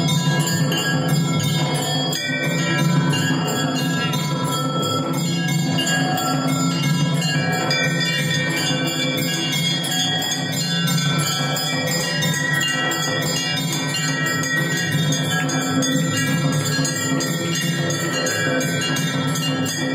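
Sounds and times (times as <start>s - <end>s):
temple bells ringing rapidly: 0.0s - 19.9s.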